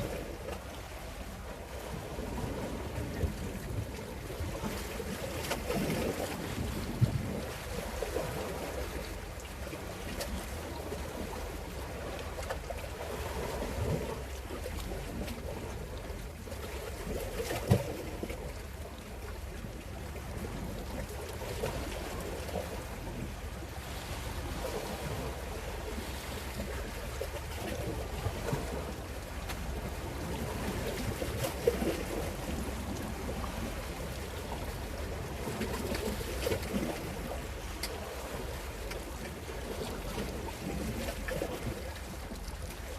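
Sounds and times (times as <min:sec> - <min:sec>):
wind and water around boat: 0:00.0 - 0:42.9.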